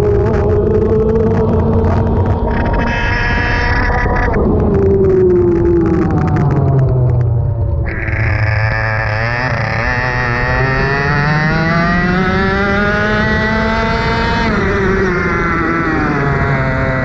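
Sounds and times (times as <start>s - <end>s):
racing kart engine accelerating: 0.0s - 17.0s.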